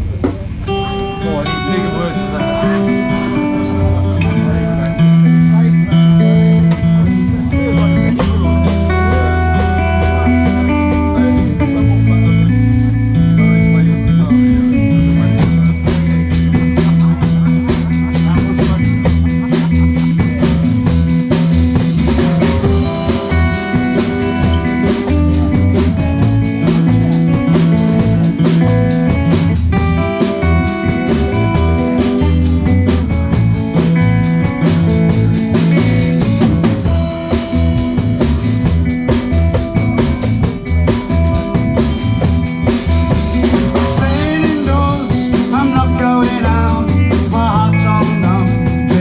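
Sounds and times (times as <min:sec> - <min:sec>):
bass guitar: 0:00.0 - 0:49.0
drum kit: 0:00.0 - 0:49.0
electric guitar: 0:00.0 - 0:49.0.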